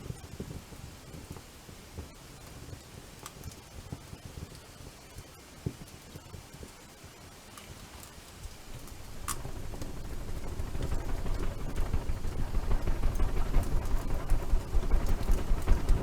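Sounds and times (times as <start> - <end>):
campfire crackle: 0.0 - 16.0
fire fluttering low rumble: 0.1 - 16.0.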